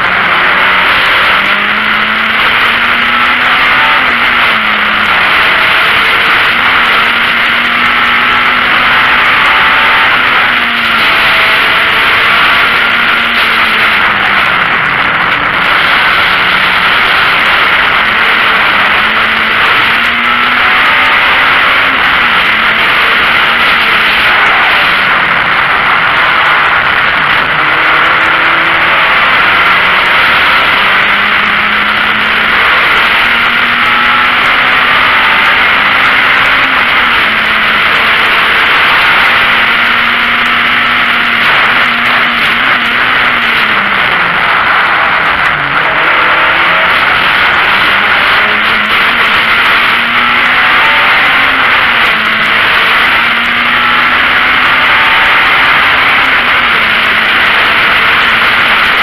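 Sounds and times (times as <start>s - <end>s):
car engine revving at speed: 0.0s - 59.0s.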